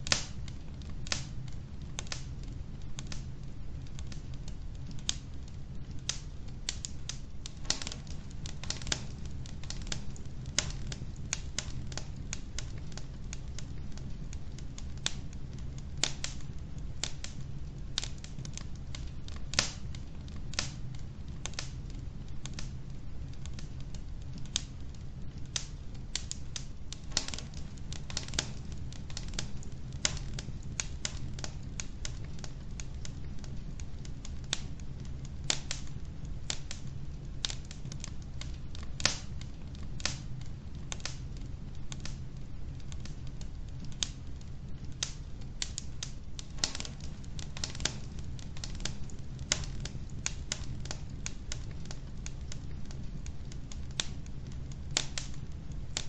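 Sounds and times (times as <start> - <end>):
logs crackling in a fireplace: 0.0 - 56.0
low fire rumble: 0.0 - 56.0.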